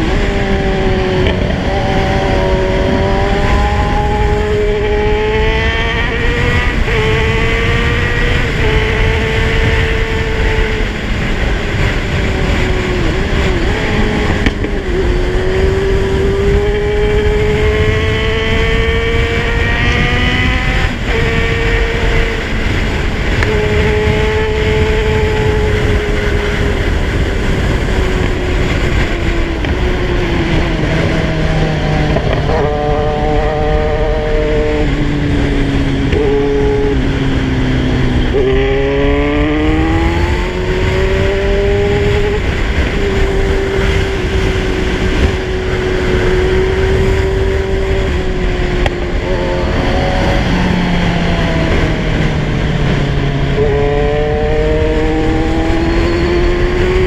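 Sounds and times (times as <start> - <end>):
motorcycle engine accelerating: 0.0 - 57.0
wind and road rumble: 0.0 - 57.0.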